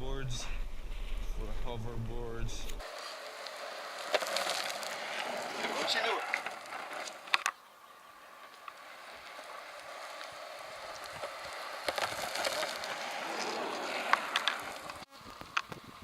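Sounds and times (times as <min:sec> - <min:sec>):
board wheels rolling on pavement: 0:00.7 - 0:16.0.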